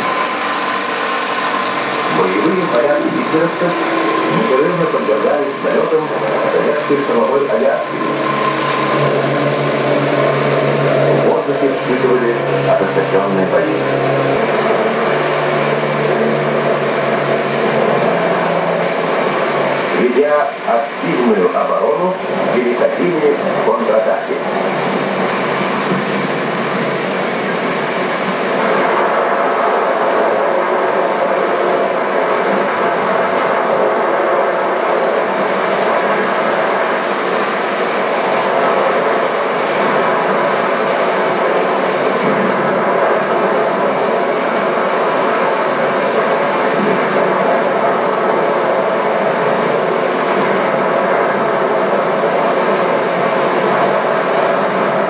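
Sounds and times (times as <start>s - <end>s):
film projector clattering: 0.0s - 55.0s.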